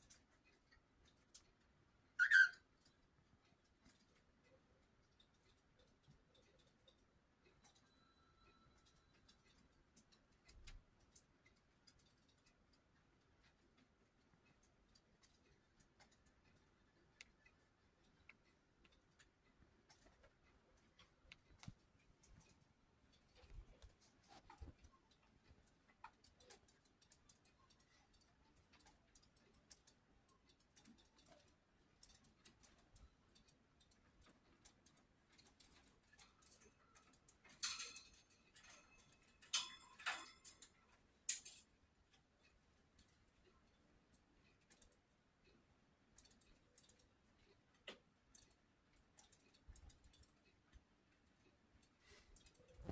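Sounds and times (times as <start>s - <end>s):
faint small clicks: 0.0s - 52.9s.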